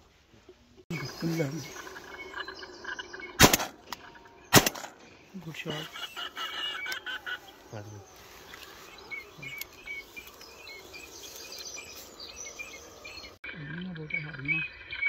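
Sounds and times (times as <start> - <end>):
faint bird chirps: 0.9 - 15.0.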